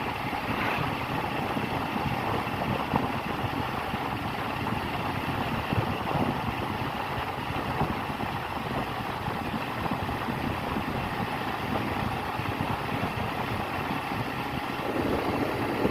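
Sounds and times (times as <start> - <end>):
vehicle engine rumbling: 0.0 - 15.9.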